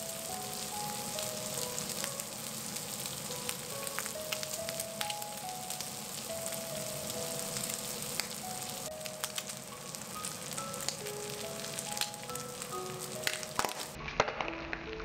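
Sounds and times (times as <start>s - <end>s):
bacon sizzling in a frying pan: 0.0s - 15.0s
simple background melody: 0.0s - 15.0s.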